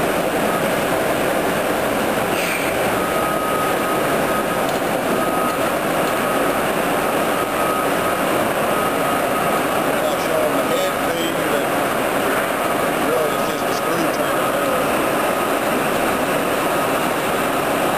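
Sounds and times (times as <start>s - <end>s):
lathe mechanical drive noise: 0.0s - 17.9s
thin high whine: 0.0s - 17.9s.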